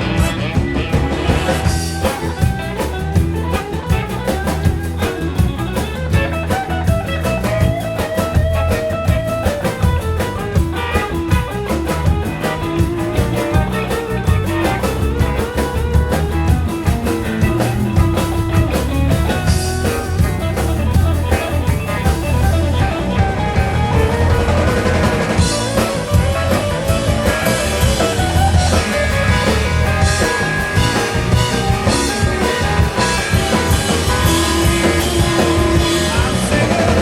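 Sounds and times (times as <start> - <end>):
instrumental band music: 0.0 - 37.0.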